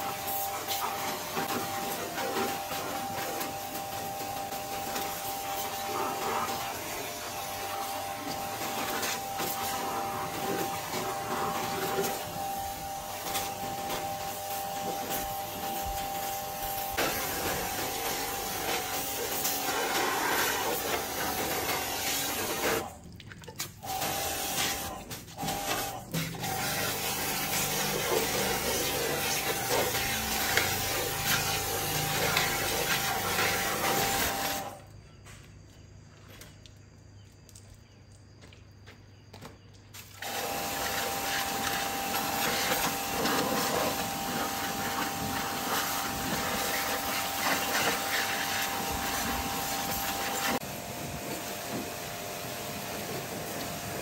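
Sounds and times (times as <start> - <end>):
pressure washer spraying hiss: 0.0 - 22.9, 23.8 - 34.8, 40.0 - 54.0
pressure washer whine: 0.0 - 23.0, 23.8 - 34.9, 40.0 - 54.0.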